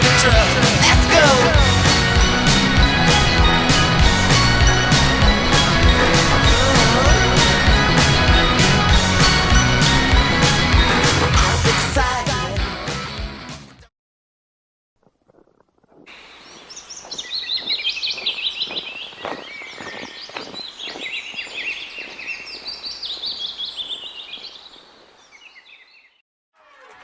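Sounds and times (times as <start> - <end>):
small birds chirping: 0.0 - 11.4, 15.1 - 26.2.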